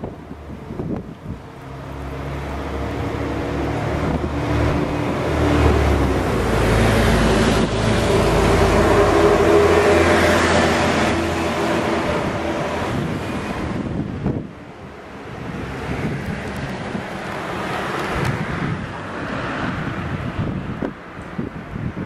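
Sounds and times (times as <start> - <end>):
buses and cars driving past: 0.0 - 22.0.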